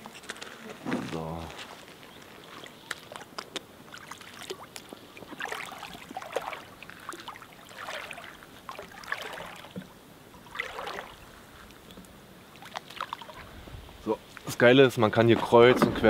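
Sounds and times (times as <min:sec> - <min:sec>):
footsteps sloshing through water: 0:00.0 - 0:13.6.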